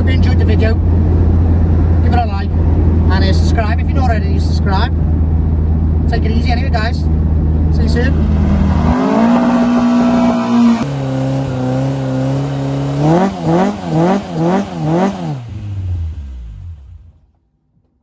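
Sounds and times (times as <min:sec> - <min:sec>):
car engine revving: 0:00.0 - 0:17.3.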